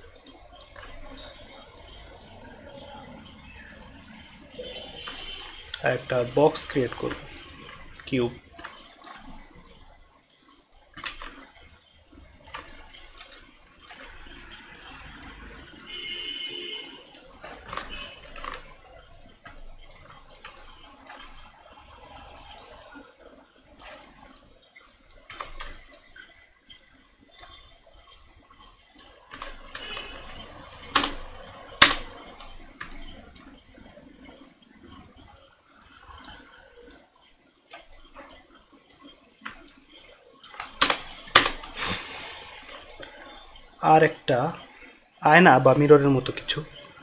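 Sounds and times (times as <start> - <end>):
computer mouse clicking: 0.0 - 23.1, 23.7 - 43.8.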